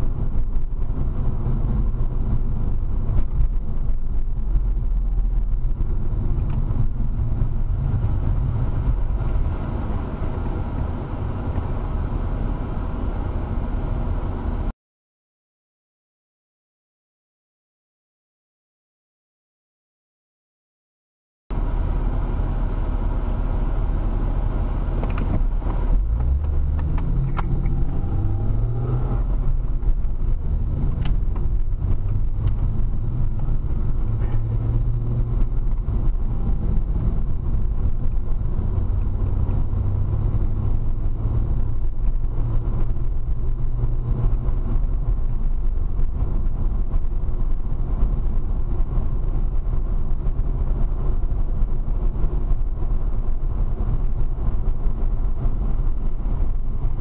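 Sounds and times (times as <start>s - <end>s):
car engine drone: 0.0s - 14.7s, 21.5s - 57.0s.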